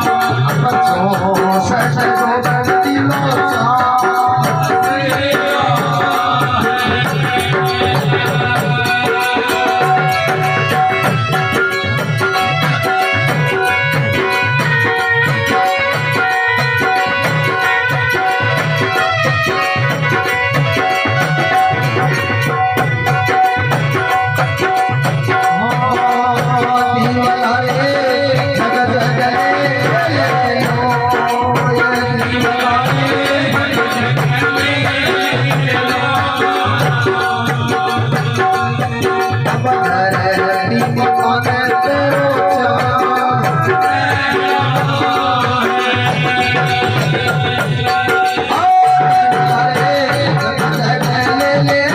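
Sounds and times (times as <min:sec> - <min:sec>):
drum beat: 0:00.0 - 0:51.9
rattling percussion: 0:00.0 - 0:51.9.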